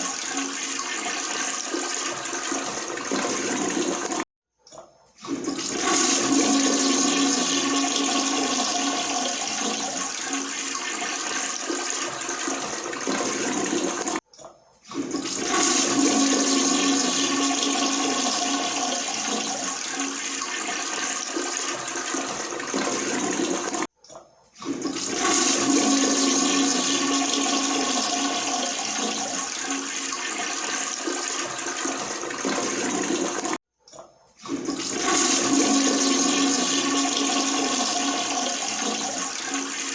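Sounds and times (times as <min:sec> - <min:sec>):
toilet flushing: 0:00.0 - 0:04.3, 0:05.1 - 0:14.2, 0:14.8 - 0:23.9, 0:24.5 - 0:33.6, 0:34.4 - 0:39.9.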